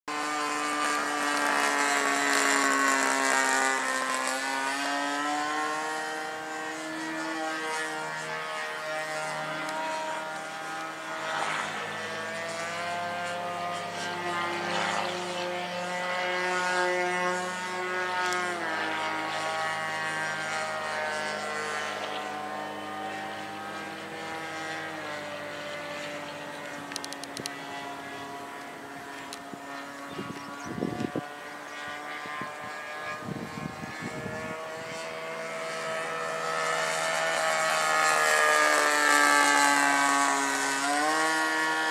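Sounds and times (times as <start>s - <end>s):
model plane engine and propeller: 0.1s - 41.9s.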